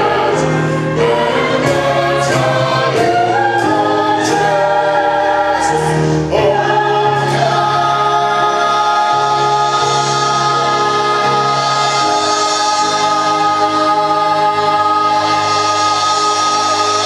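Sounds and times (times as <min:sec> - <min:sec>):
musical accompaniment: 0:00.0 - 0:17.0
stage chorus singing: 0:00.0 - 0:17.0.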